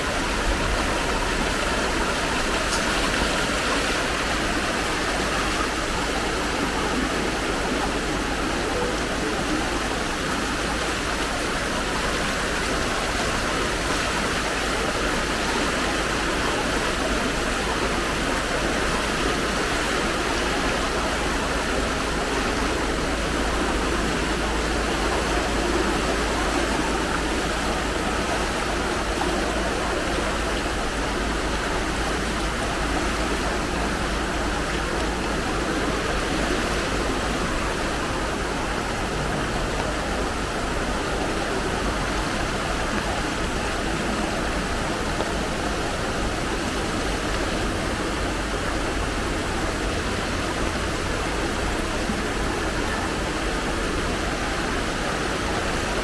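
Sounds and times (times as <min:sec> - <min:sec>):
rushing floodwater: 0:00.0 - 0:56.0.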